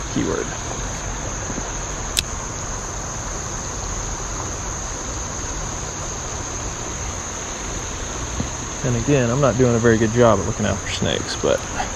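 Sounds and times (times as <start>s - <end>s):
insects droning: 0.0s - 11.9s.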